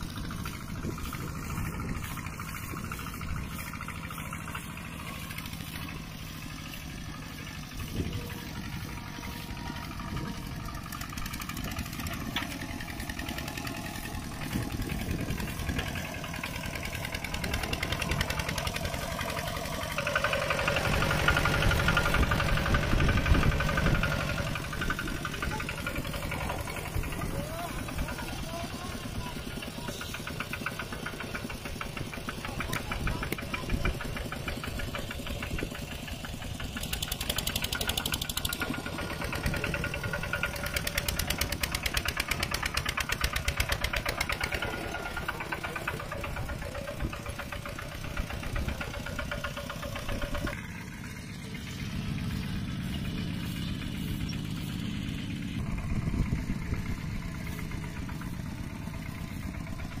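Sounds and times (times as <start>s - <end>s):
diesel tractor engine knocking: 0.0s - 60.0s
distant engine drone: 0.0s - 60.0s.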